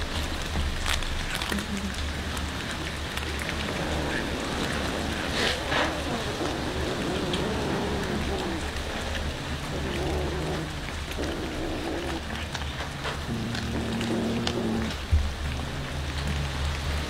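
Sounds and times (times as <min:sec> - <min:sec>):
cats chewing and smacking: 0:00.0 - 0:17.0.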